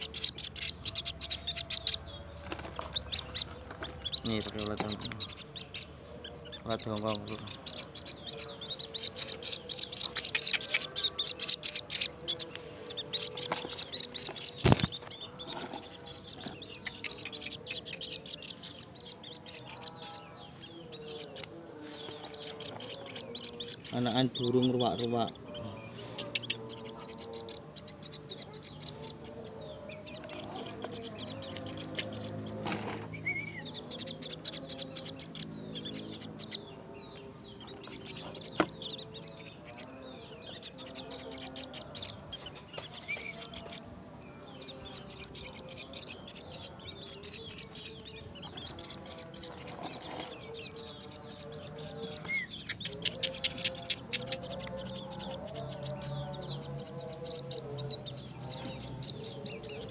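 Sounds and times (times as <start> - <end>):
chicks cheeping: 0.0 - 59.9.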